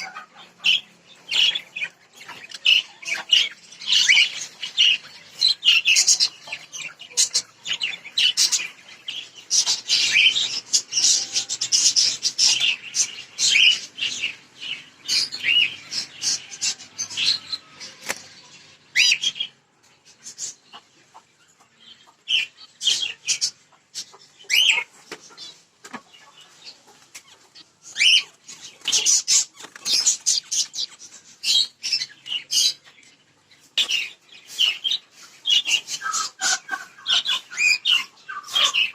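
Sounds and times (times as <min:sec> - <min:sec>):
caged birds chirping: 0:00.0 - 0:38.9.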